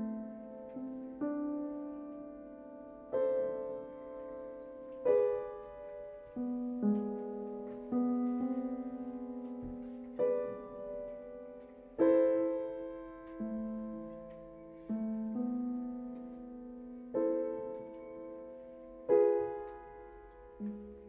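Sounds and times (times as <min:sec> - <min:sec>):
piano playing slow chords: 0:00.0 - 0:21.0.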